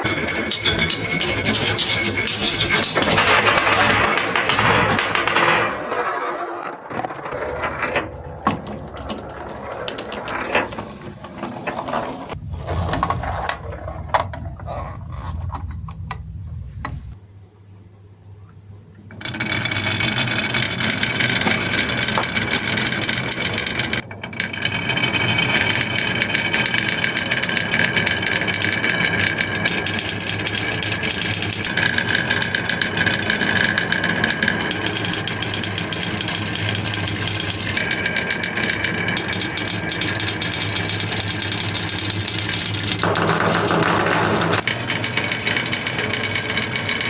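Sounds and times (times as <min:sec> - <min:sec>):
marbles rolling down wooden run: 0:00.0 - 0:17.2, 0:19.1 - 0:47.0.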